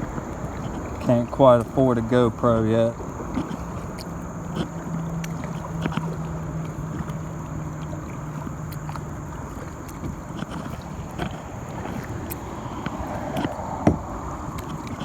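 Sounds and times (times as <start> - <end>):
low steady hum: 0.0 - 15.0
paddle knocks and splashes: 0.0 - 15.0
rushing water: 0.0 - 15.0
wind on microphone: 0.0 - 15.0.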